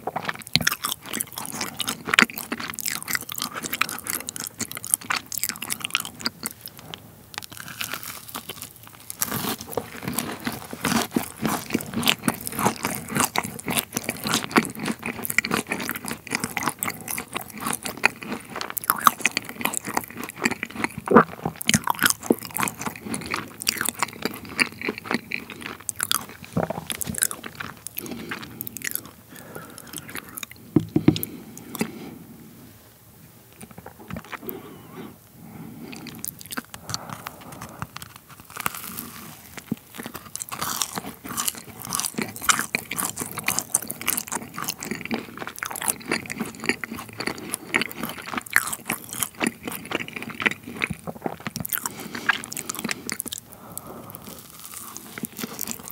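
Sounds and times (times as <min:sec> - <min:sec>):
crunchy chewing: 0:00.0 - 0:32.2, 0:33.5 - 0:55.9.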